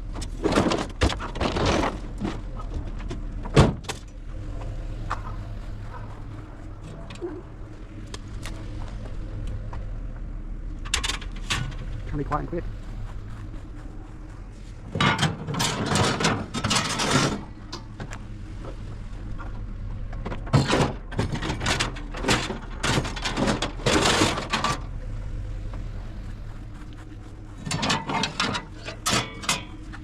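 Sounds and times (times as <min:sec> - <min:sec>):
vehicle engine idling: 0:00.0 - 0:30.0
items scraping and rattling: 0:00.2 - 0:09.8, 0:10.8 - 0:25.0, 0:25.6 - 0:30.0.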